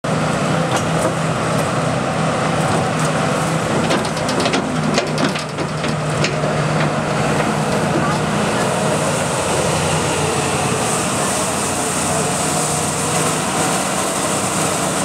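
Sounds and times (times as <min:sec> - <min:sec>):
excavator diesel engine running: 0:00.1 - 0:15.0.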